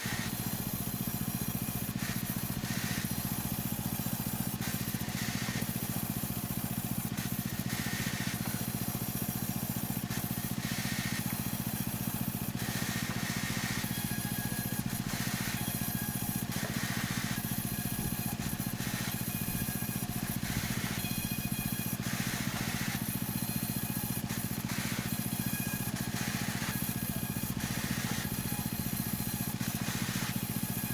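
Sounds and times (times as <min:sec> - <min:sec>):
machine engine running: 0:00.0 - 0:30.9.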